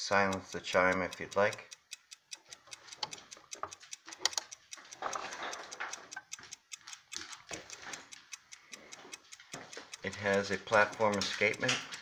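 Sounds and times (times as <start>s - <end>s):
clock ticking quickly: 0.0s - 12.0s.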